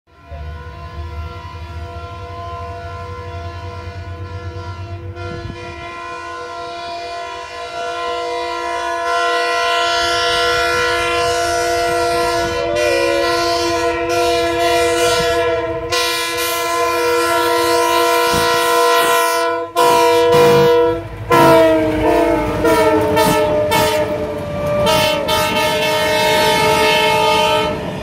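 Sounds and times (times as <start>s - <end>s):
train horn: 0.1s - 28.0s.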